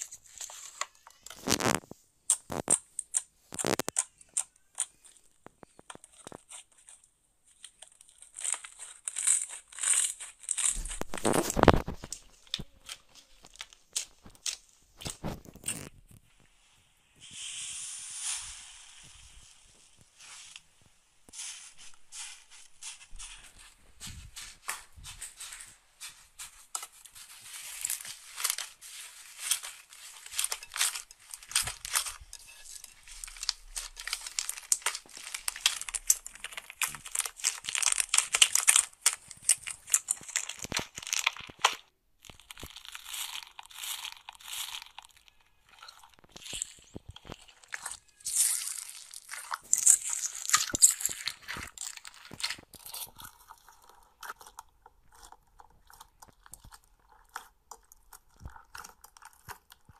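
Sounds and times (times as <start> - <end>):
hands squeezing crackling slime: 0.0 - 16.0, 24.4 - 59.9
crunchy bead slime: 0.0 - 59.9.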